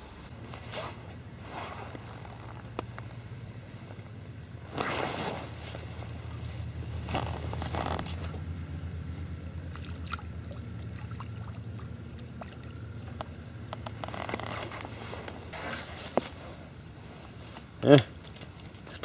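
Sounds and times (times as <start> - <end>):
rustle: 0.0 - 9.4, 11.6 - 19.0
low hum: 0.0 - 19.0.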